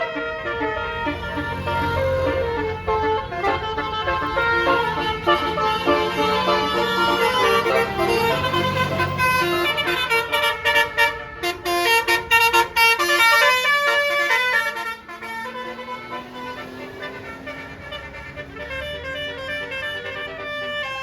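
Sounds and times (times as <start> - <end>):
bus engine rumble: 0.0 - 21.0
bus horn playing melody: 0.0 - 21.0.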